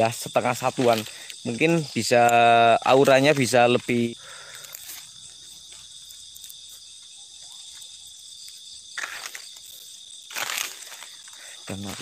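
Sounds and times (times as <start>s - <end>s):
night insects chirring: 0.0s - 12.0s
rustling leaves and grass: 0.0s - 12.0s.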